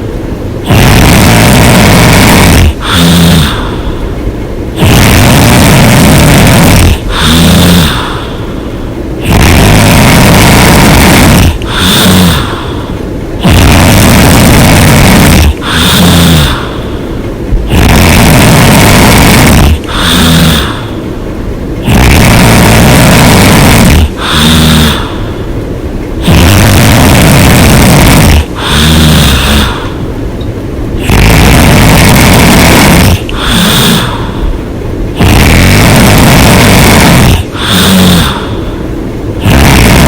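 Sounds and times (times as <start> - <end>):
person snoring loudly: 0.6 - 4.0, 4.7 - 21.0, 21.8 - 25.4, 26.2 - 30.0, 31.0 - 40.0.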